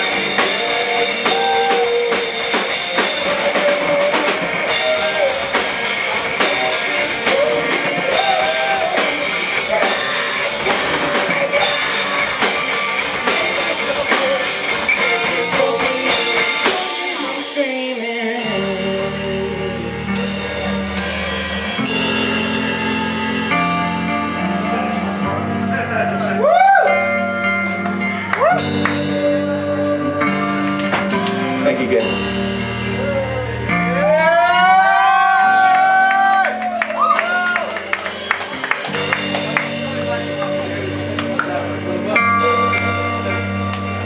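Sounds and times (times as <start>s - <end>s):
guitar chords ringing: 0.0s - 34.3s, 37.7s - 44.0s
drum kit: 0.0s - 44.0s
rock band playing: 0.0s - 44.0s.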